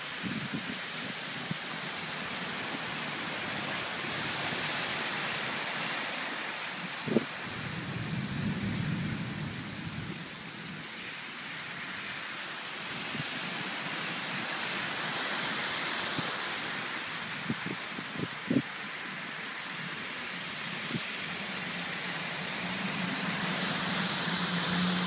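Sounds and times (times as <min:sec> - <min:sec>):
heavy rain: 0:00.0 - 0:25.0
cars driving through water: 0:00.8 - 0:17.9, 0:18.7 - 0:25.0.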